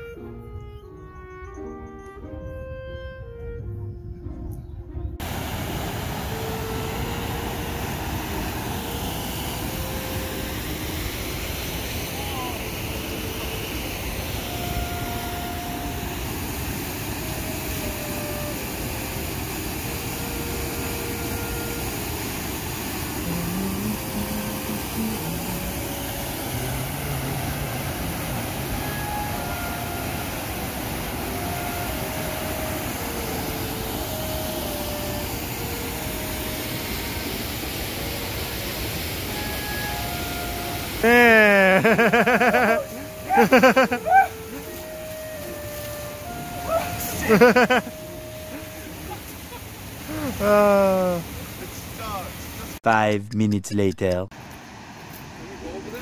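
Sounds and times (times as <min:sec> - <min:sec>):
river rushing over rocks: 0:05.2 - 0:52.8, 0:54.4 - 0:56.0.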